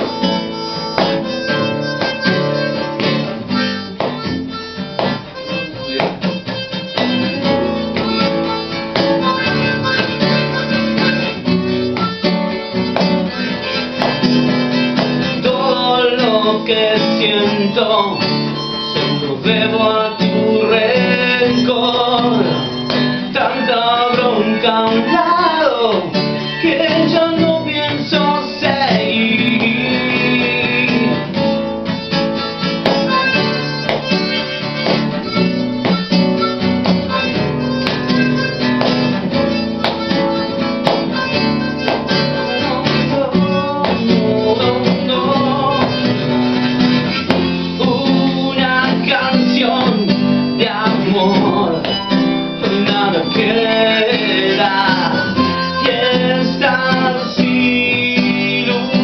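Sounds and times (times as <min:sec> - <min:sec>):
harmonica melody: 0:00.0 - 0:59.0
nylon-string guitar: 0:00.0 - 0:59.0.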